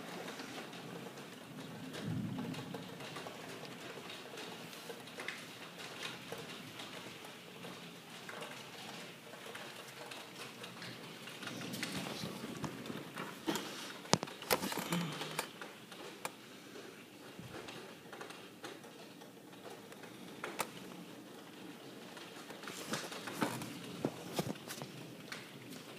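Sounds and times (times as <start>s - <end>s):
rain falling: 0.0s - 25.9s.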